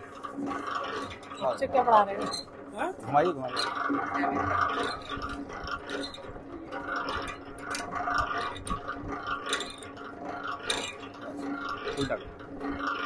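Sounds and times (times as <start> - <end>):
clicks and rattles: 0.0 - 13.0
honey extractor whirring: 0.0 - 13.0.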